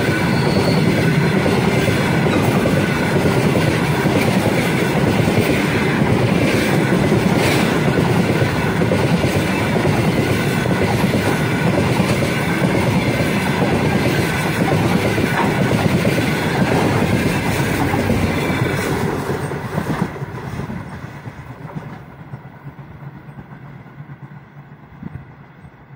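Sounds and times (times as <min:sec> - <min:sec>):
train wheels rolling on rails: 0:00.0 - 0:25.9.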